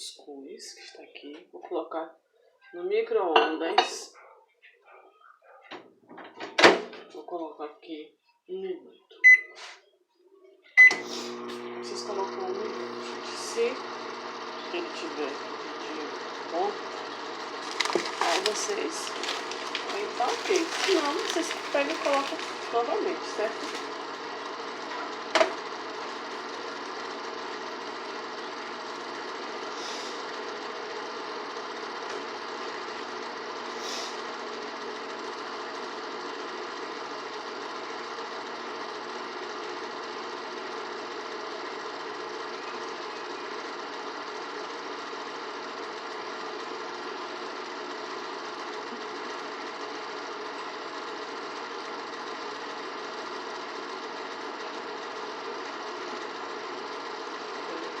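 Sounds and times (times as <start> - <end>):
microwave oven humming: 9.2 - 9.6, 10.6 - 58.0.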